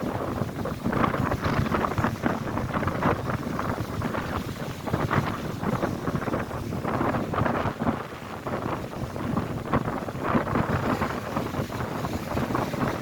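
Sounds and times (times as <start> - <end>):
gusty wind buffeting microphone: 0.0 - 13.0
lake waves breaking on shore: 0.0 - 13.0.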